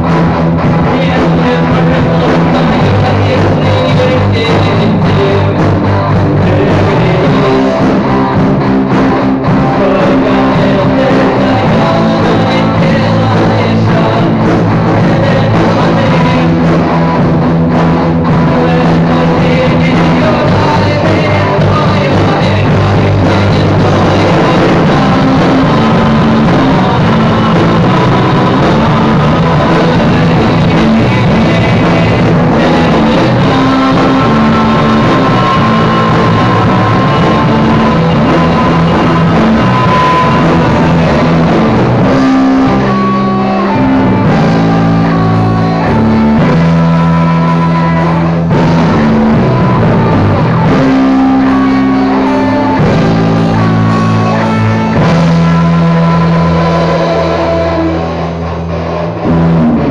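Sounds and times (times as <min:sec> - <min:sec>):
electric guitar playing chords: 0:00.0 - 0:59.9
rock band track: 0:00.0 - 0:59.9.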